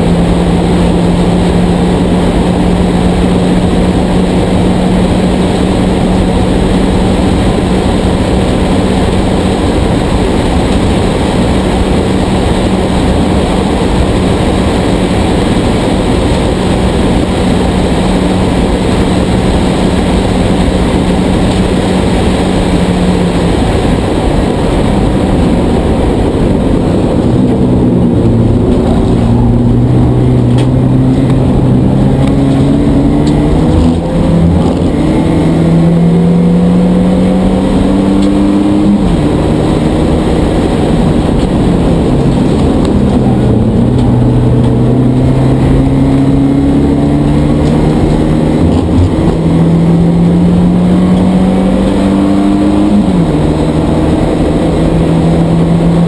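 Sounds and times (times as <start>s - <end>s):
race car engine at full throttle: 0.0s - 56.0s
wind and road noise: 0.0s - 56.0s.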